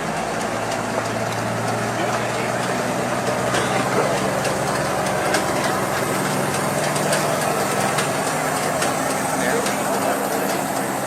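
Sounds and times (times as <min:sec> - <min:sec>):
heavy truck engine idling: 0:00.0 - 0:11.0.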